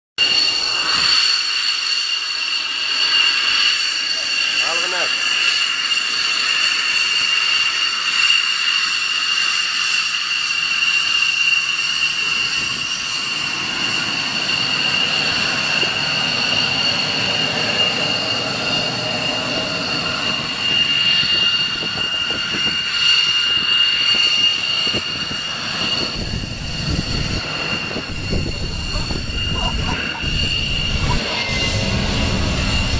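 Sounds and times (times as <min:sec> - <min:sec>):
jet engines at takeoff power: 0:00.2 - 0:32.9.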